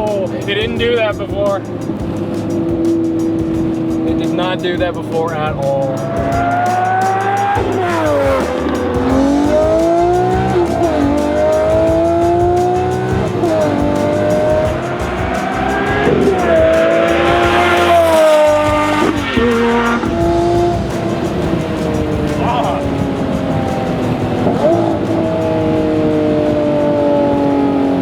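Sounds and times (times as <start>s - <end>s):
sports car accelerating hard: 0.0s - 28.0s.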